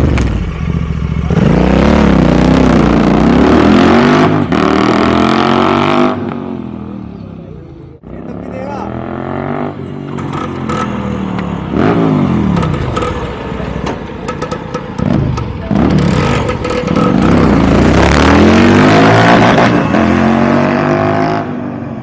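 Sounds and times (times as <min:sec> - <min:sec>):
motorcycle engine revving: 0:00.0 - 0:07.0, 0:08.0 - 0:21.8.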